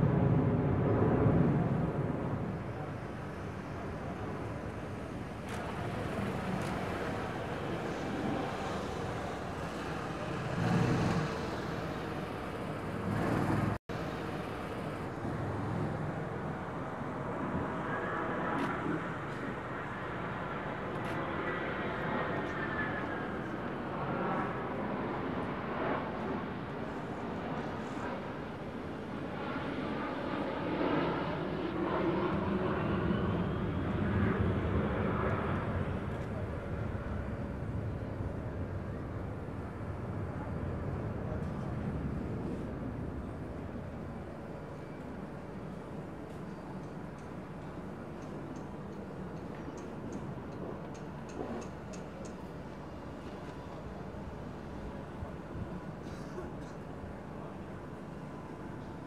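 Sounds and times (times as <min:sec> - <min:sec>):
distant jet flying overhead: 0:00.0 - 0:59.0.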